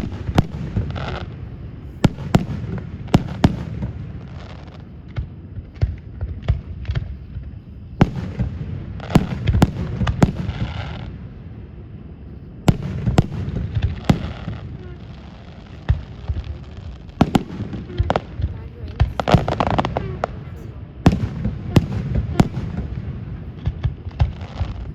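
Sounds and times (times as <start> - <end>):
firework crackling hiss: 0.0 - 24.9.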